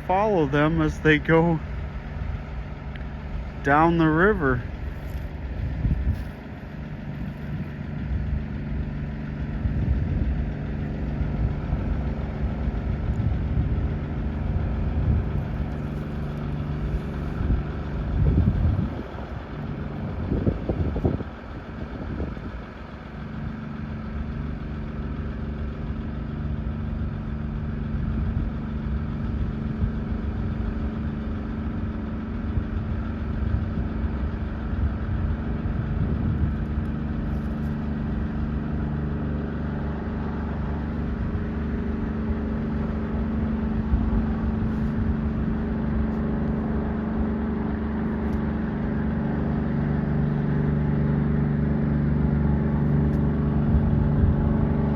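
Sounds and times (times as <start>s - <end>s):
tugboat engine droning: 0.0s - 54.9s.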